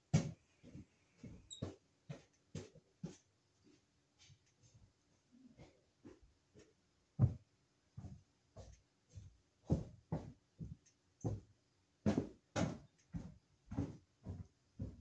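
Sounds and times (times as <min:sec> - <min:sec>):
footsteps on wooden floor overhead: 0:00.0 - 0:15.0.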